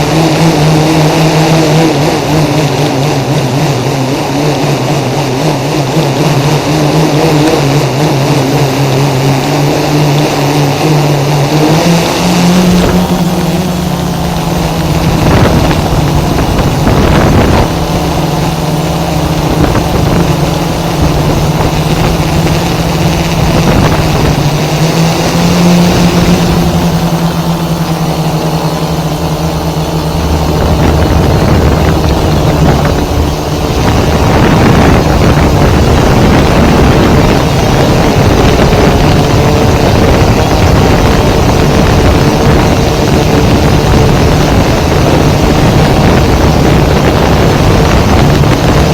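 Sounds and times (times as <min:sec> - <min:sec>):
drone buzzing hum: 0:00.0 - 0:48.9.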